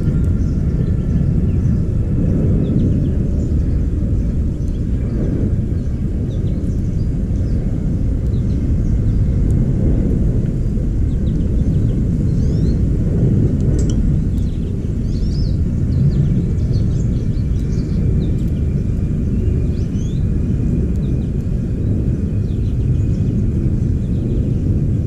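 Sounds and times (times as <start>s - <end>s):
songbirds chirping faintly: 0.0s - 25.0s
steady low rumble: 0.0s - 25.0s.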